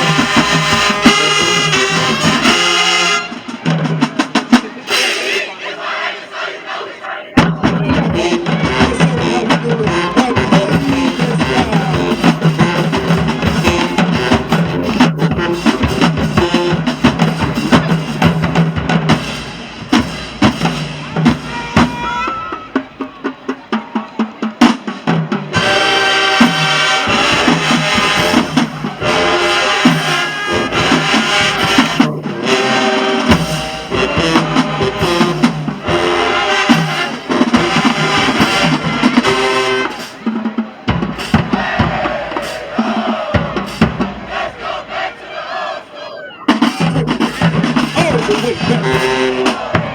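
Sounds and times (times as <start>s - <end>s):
brass instruments playing: 0.0s - 49.9s
marching drum line: 0.0s - 49.9s.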